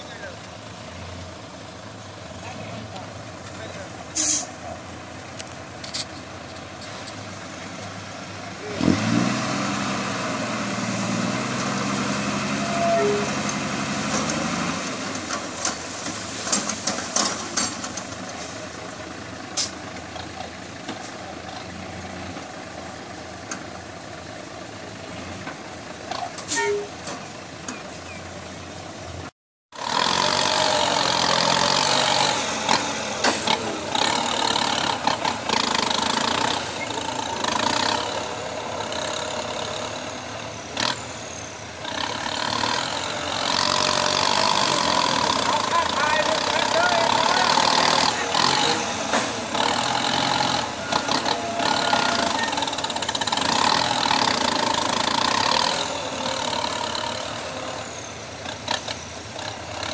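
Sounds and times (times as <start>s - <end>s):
diesel truck engine revving: 0.0s - 59.9s
tractor diesel engine under load: 0.0s - 59.9s.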